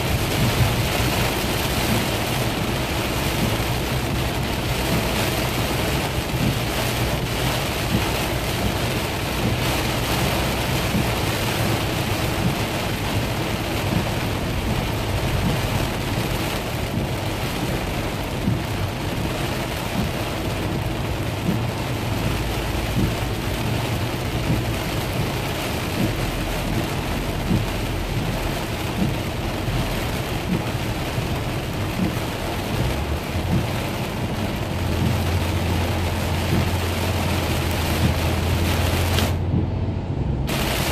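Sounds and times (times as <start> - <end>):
heavy rain on car windshield: 0.0 - 40.9
low road and engine rumble: 0.0 - 40.9.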